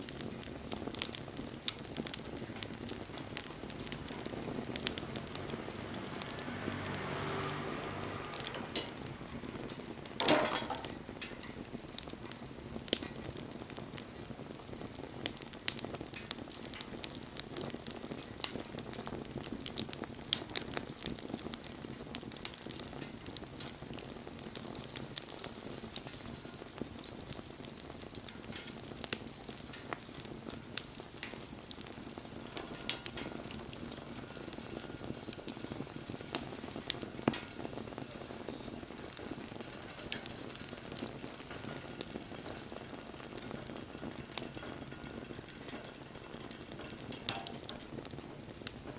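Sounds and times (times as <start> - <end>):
bonfire crackling and popping: 0.0 - 48.9
low rush of burning: 0.0 - 48.9.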